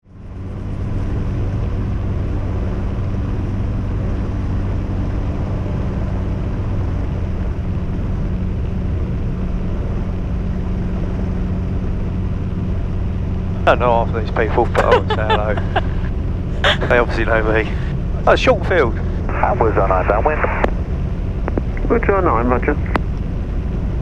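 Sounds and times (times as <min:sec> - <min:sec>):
aircraft piston engine humming: 0:00.1 - 0:24.0.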